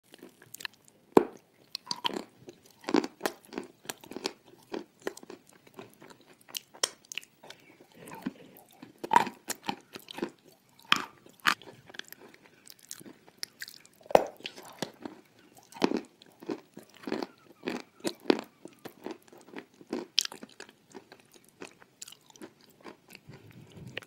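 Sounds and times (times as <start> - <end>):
chewing and smacking food: 0.1 - 24.0.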